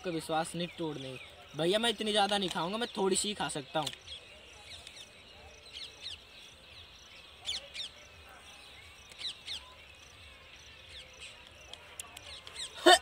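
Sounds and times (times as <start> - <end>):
birds calling: 0.0 - 13.0
faint outdoor background: 0.0 - 13.0.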